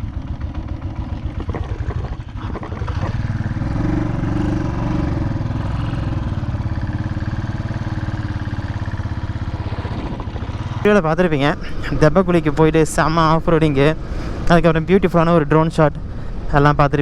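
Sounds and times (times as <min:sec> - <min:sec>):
motorcycle engine throbbing: 0:00.0 - 0:16.7.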